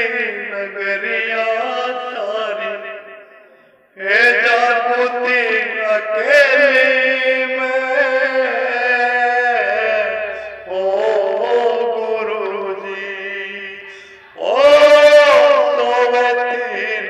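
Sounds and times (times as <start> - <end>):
man singing unaccompanied: 0.0 - 3.3, 3.9 - 17.0.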